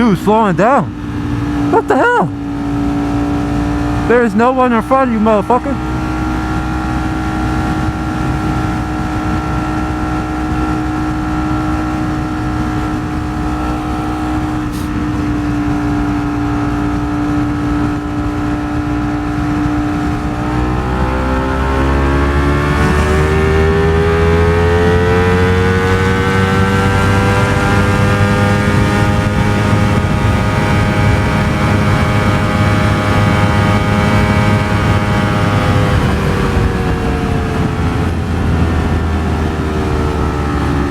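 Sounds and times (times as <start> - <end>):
low wind rumble: 0.0 - 40.9
motorcycle engine accelerating: 0.0 - 40.9.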